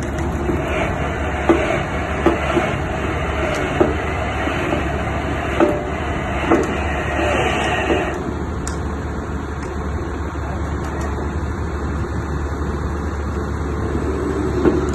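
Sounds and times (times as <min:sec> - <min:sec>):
excavator running: 0:00.0 - 0:14.9.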